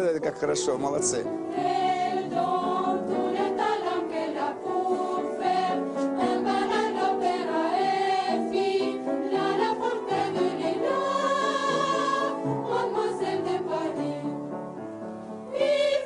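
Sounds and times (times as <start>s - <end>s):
choir singing: 1.4s - 14.7s, 15.5s - 16.0s.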